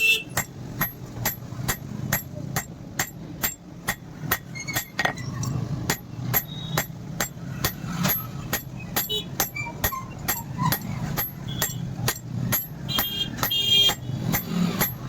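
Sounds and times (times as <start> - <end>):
hammer striking steel on anvil: 0.0 - 5.2, 5.8 - 15.0.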